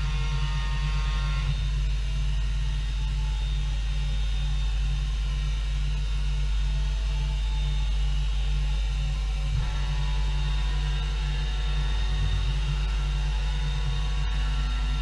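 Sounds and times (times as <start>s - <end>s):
machining centre humming and pulsing: 0.0s - 15.0s.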